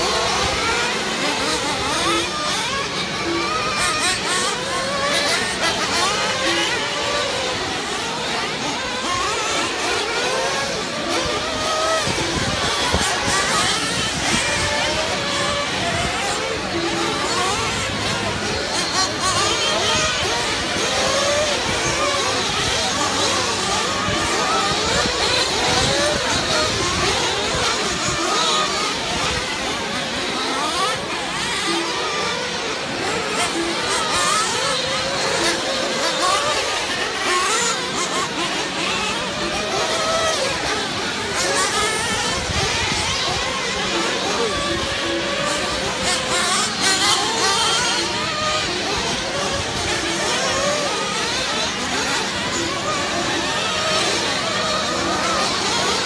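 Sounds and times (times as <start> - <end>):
model car motors whining: 0.0 - 56.0.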